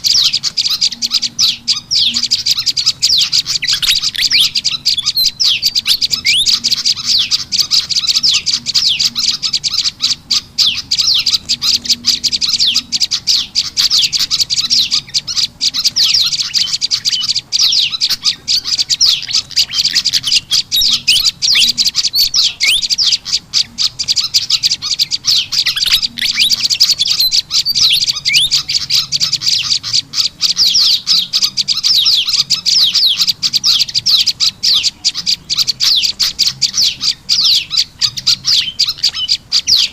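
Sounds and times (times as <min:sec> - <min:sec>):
recorded bird calls: 0:00.0 - 0:39.9.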